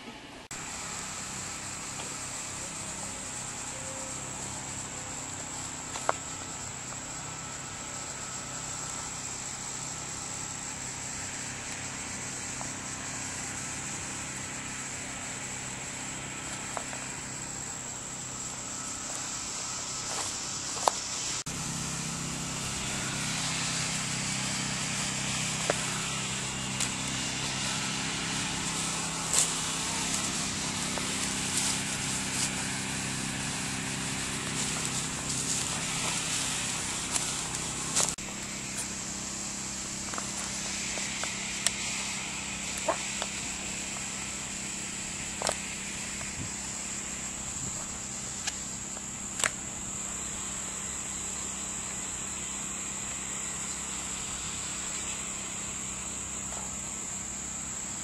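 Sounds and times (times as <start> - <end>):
low motor hum: 0.0 - 58.0
high insect drone: 0.5 - 58.0.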